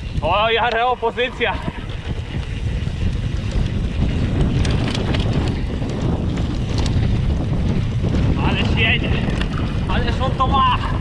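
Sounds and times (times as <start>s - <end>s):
bike rattling: 0.0s - 11.0s
wind buffeting microphone: 0.0s - 11.0s.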